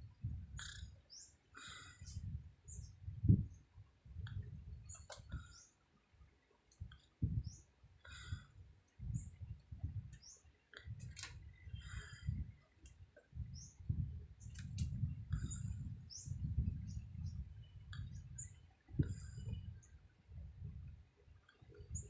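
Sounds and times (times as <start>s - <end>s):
small birds chirping: 0.2s - 20.2s, 21.3s - 22.0s.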